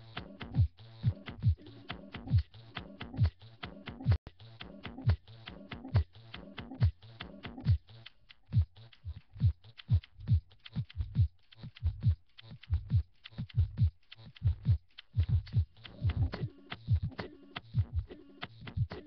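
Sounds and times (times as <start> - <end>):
electronic kick drum: 0.0 - 19.0.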